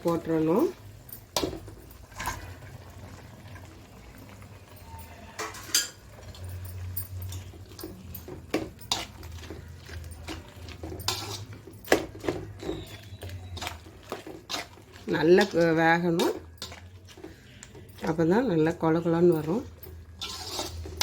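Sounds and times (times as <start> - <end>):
spoon clinking on pot: 1.0 - 2.6, 4.7 - 21.0.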